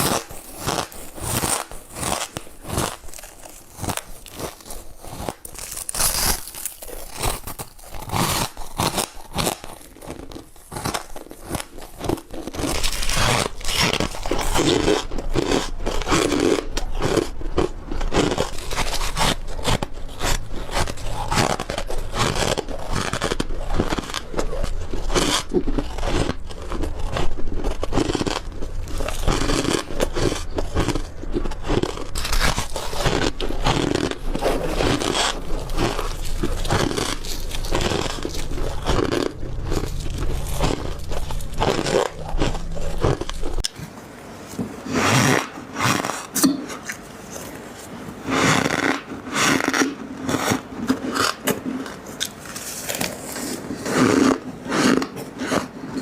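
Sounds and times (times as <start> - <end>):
ice crunching as chewed: 0.0 - 43.9, 44.5 - 56.0.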